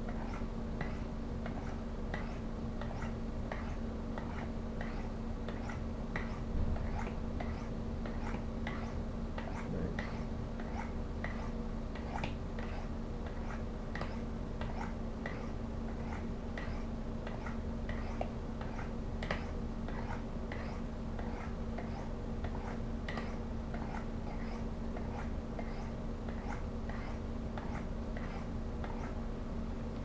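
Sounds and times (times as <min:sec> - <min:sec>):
knife rasping on ceramic rods: 0:00.1 - 0:29.2.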